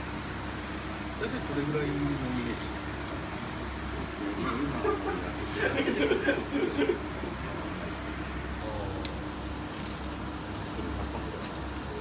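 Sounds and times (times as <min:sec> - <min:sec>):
gas grill humming and rushing: 0:00.0 - 0:12.0.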